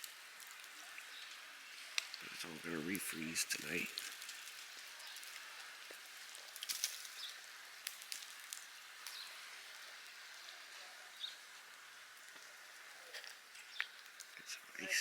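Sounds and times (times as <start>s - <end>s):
faint steady hiss: 0.0s - 15.0s
melting snow dripping: 0.0s - 15.0s.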